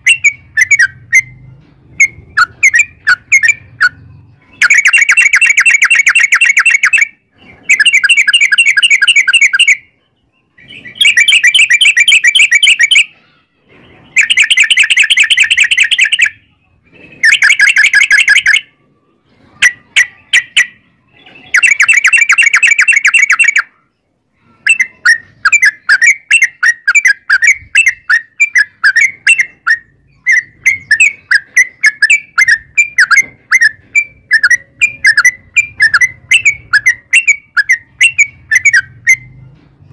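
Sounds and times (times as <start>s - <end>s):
bulbul rolling trills: 0.0s - 39.9s.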